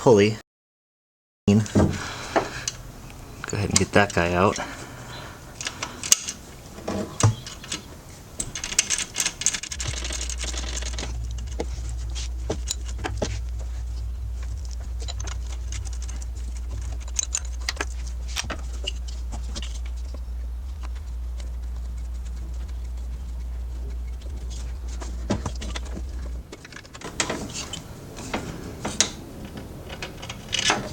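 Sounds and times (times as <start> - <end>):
steady low rumble: 2.0 - 30.9.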